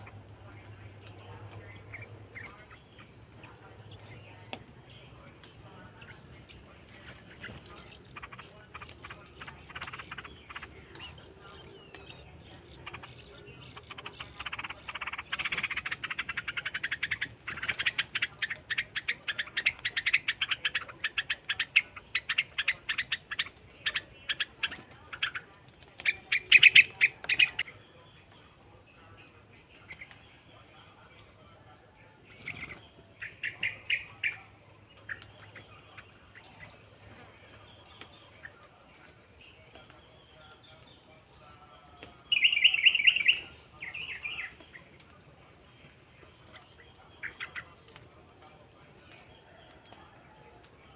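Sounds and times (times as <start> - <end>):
birds chirping rapidly: 0.0 - 50.9.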